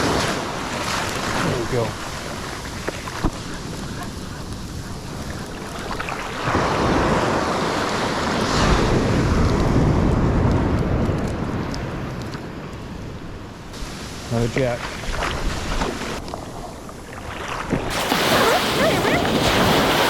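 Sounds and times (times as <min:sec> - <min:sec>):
ocean wave breaking: 0:00.0 - 0:10.8, 0:13.7 - 0:20.0
wind on microphone: 0:00.0 - 0:20.0.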